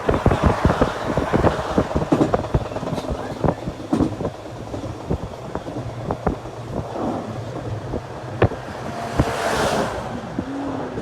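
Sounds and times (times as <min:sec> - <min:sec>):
rail clicks and knocks: 0:00.0 - 0:11.0
train rumbling on rails: 0:00.0 - 0:11.0.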